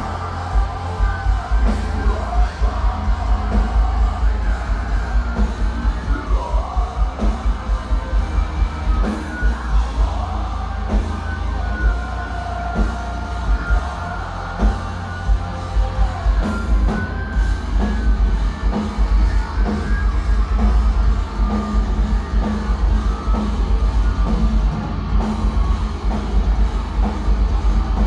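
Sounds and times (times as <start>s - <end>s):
bass guitar: 0.0s - 28.0s
heavy distorted guitars: 0.0s - 28.0s.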